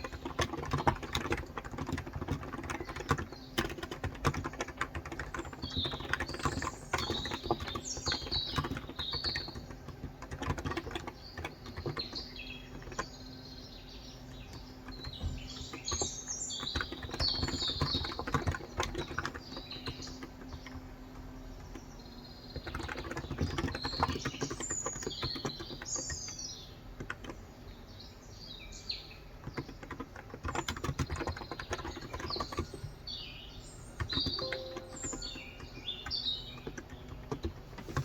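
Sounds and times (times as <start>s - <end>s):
keyboard typing clicks: 0.0s - 13.2s, 14.3s - 27.4s, 29.4s - 33.0s, 34.0s - 38.0s
birds chirping: 0.0s - 38.0s.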